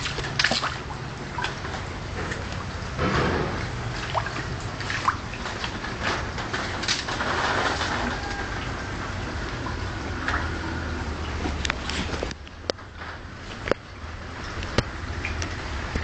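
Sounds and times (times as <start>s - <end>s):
floodwater sloshing and splashing: 0.0s - 16.0s
small splashes and trickles: 0.0s - 16.0s
steady low rumble: 0.0s - 16.0s.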